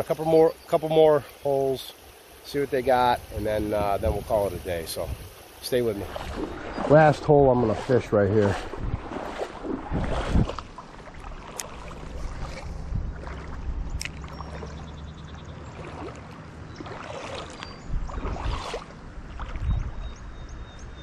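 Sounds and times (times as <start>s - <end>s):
moving water: 0.0s - 21.0s
wind rumbling on microphone: 2.8s - 21.0s.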